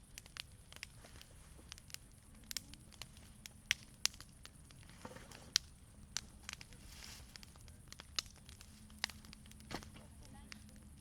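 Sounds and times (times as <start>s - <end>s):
campfire crackling: 0.0s - 11.0s
fire pops: 0.0s - 11.0s
low fire hiss: 0.0s - 11.0s.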